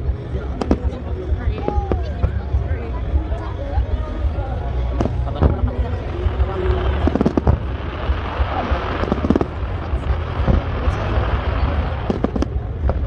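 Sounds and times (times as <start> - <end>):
low rumble: 0.0 - 13.0
fireworks bursting with crackle: 0.1 - 2.7, 4.2 - 13.0.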